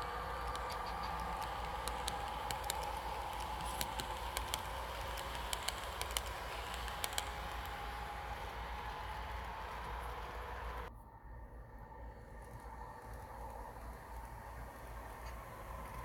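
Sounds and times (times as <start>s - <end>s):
model train wheels clicking: 0.0s - 10.9s, 12.2s - 16.0s
steady hum: 0.0s - 16.0s.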